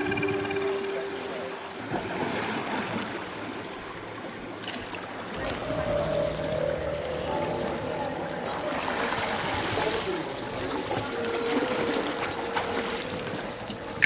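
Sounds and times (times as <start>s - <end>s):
seawater washing among boulders: 0.0s - 14.0s.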